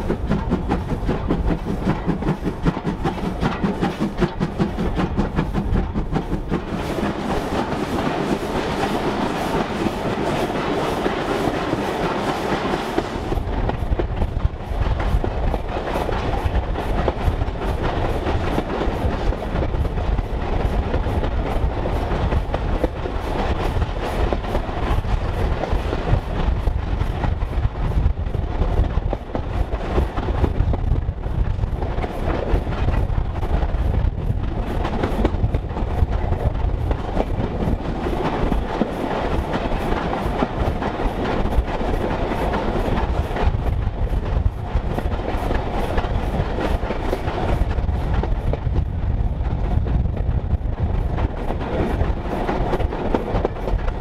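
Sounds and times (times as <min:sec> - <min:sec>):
wheels clacking over rail joints: 0:00.0 - 0:48.8, 0:51.1 - 0:54.0
train rumble: 0:00.0 - 0:54.0.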